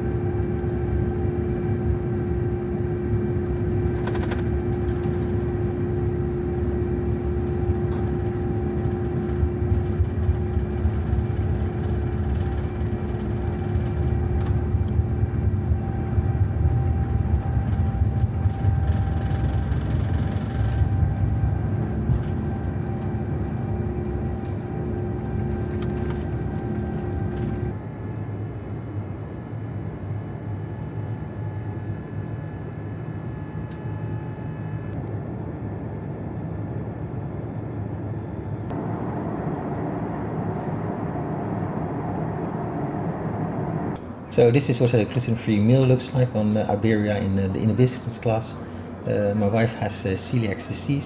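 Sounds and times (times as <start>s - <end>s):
jet engines rumbling: 0.0s - 27.8s, 35.2s - 51.0s.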